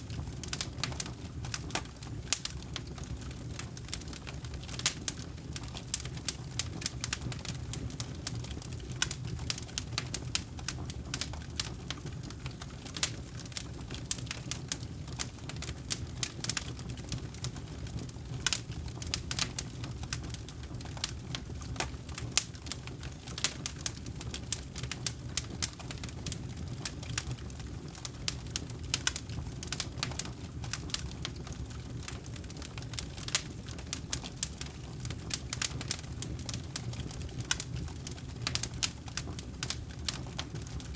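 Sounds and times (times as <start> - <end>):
campfire wood crackling and popping: 0.0 - 40.9
low rumble of flames: 0.0 - 40.9.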